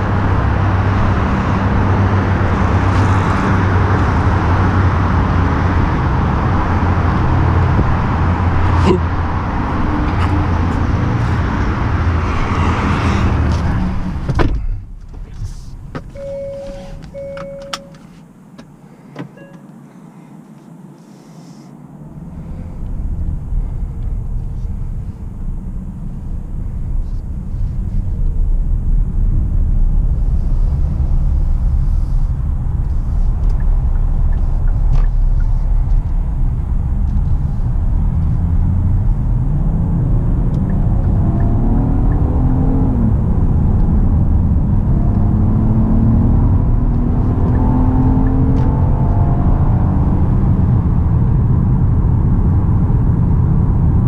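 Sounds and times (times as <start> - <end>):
car engine accelerating: 0.0 - 18.2, 21.8 - 54.0
road and tyre rumble: 0.0 - 54.0.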